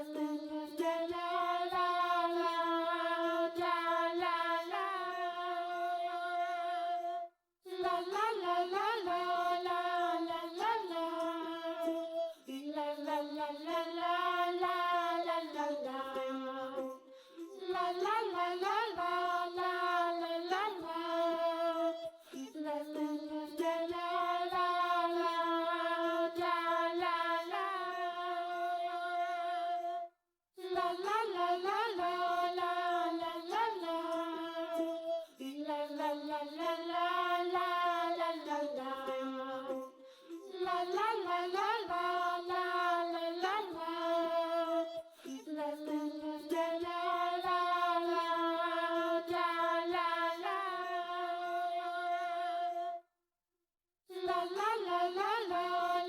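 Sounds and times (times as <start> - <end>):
high voice singing wordless melody: 0.0 - 53.0, 54.1 - 56.0.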